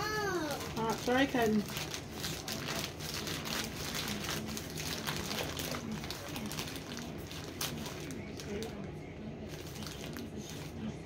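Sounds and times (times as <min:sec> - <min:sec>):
plastic bag rustling and tearing: 0:00.0 - 0:11.0.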